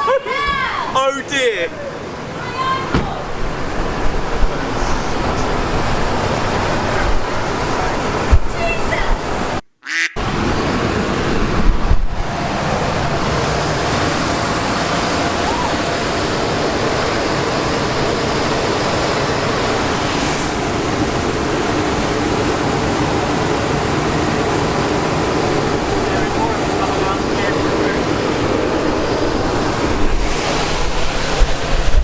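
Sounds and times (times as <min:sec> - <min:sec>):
loud rushing blower noise: 0:00.4 - 0:09.6, 0:10.2 - 0:32.0.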